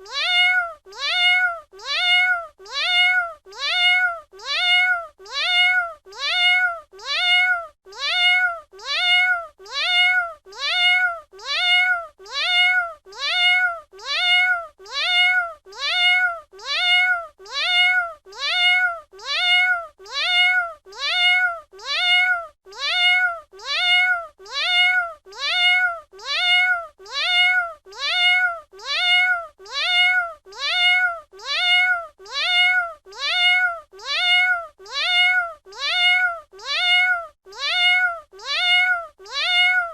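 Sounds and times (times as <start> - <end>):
cat meowing: 0.0 - 39.9.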